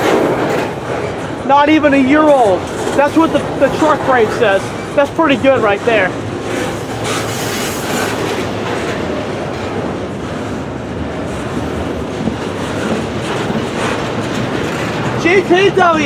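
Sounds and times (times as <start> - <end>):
freight train wheels rolling: 0.0 - 16.0.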